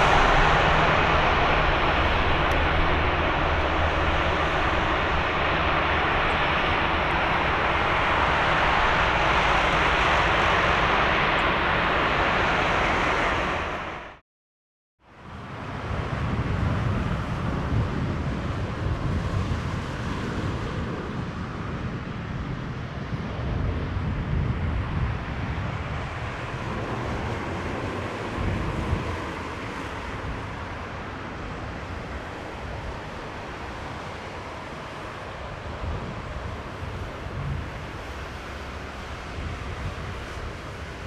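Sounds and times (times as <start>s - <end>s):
airliner jet rumble: 0.0s - 14.2s, 15.1s - 41.0s
wind on microphone: 0.0s - 14.2s, 15.2s - 41.0s.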